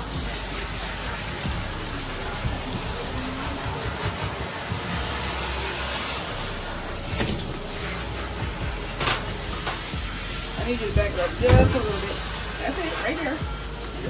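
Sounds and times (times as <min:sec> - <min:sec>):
water hissing from hose sprayer: 0:00.0 - 0:14.0.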